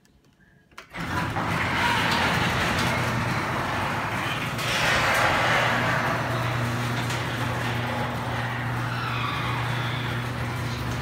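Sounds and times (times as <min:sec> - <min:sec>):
garage door opener running: 0:00.8 - 0:11.0.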